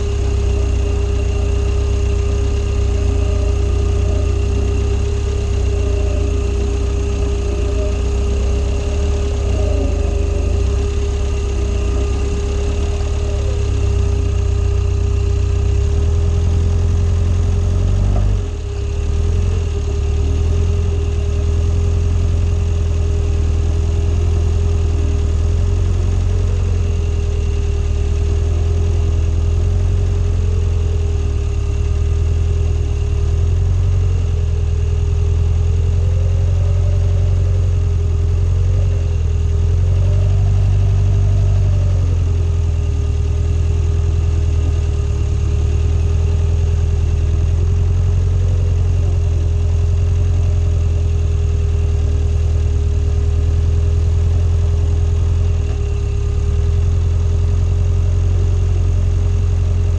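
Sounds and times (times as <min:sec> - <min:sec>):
swamp buggy engine running: 0:00.0 - 0:59.9.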